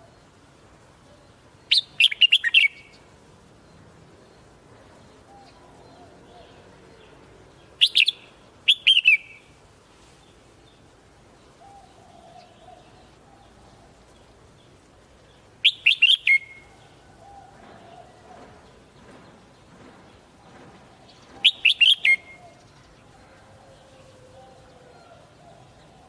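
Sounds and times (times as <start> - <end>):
bulbul singing: 0.0 - 9.6, 10.6 - 19.7, 21.0 - 26.0.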